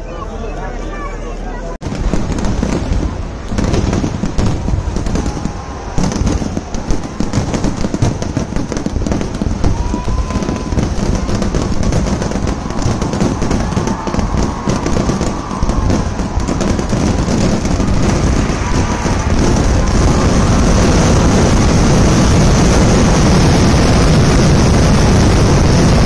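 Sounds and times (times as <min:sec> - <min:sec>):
rapid firecracker bangs: 0:01.8 - 0:26.0.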